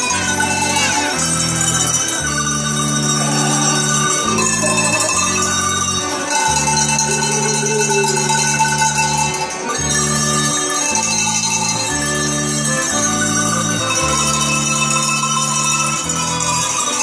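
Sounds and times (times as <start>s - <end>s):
cowbells playing a tune: 0.0s - 17.0s
low backing chords: 0.0s - 17.0s.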